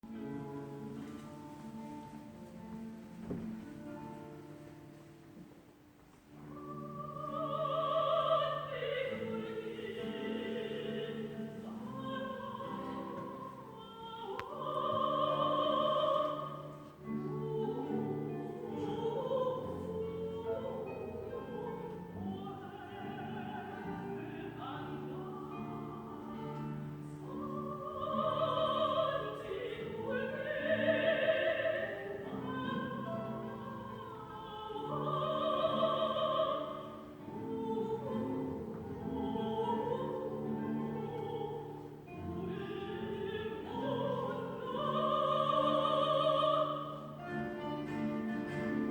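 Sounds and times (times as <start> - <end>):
guitar orchestra accompaniment: 0.0 - 48.9
soprano singing operatically: 6.3 - 48.9.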